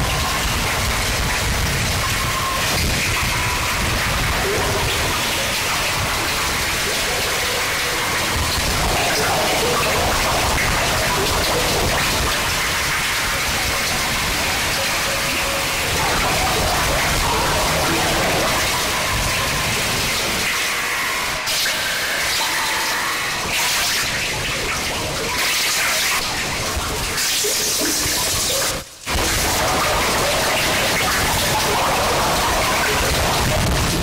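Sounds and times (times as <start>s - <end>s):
static-like noise music: 0.0s - 34.0s.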